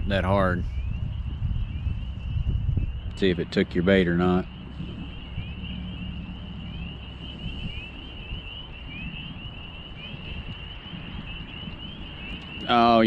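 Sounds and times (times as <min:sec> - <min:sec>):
low rumble: 0:00.0 - 0:12.8
frogs peeping: 0:00.0 - 0:13.0.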